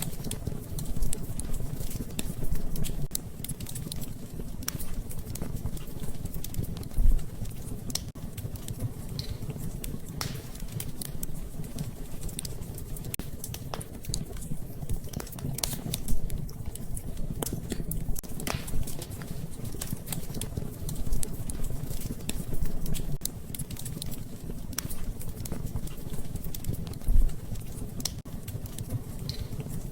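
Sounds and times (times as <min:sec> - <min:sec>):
wood fire crackling: 0:00.0 - 0:29.9.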